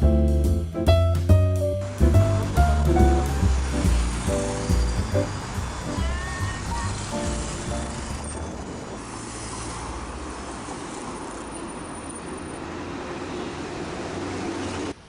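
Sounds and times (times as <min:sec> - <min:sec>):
rushing noise with low rumble: 0:01.8 - 0:15.0.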